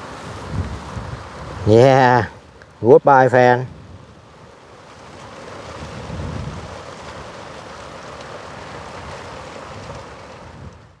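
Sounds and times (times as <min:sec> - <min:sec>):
wind rushing on microphone: 0:00.0 - 0:04.6, 0:05.4 - 0:07.4, 0:08.6 - 0:11.0.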